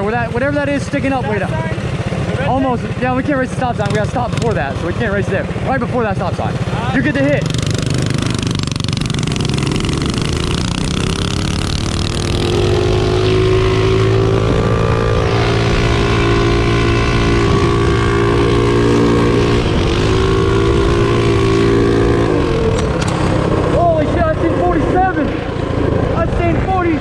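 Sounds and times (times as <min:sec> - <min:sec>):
minibike engine at full throttle: 0:00.0 - 0:27.0.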